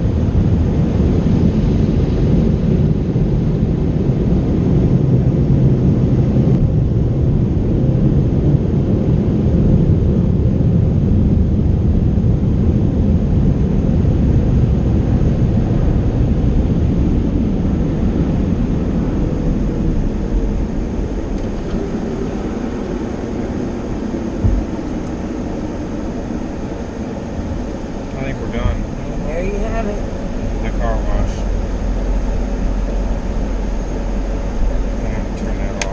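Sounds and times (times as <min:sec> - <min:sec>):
car wash equipment rumbling: 0:00.0 - 0:35.9.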